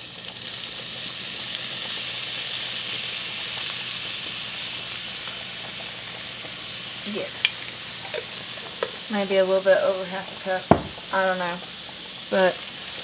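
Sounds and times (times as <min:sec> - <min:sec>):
sauce sizzling in a frying pan: 0:00.0 - 0:13.0.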